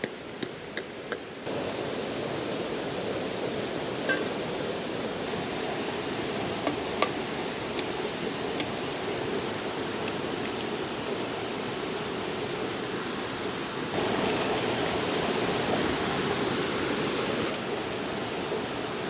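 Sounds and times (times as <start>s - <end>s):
river water rushing: 1.5s - 19.0s.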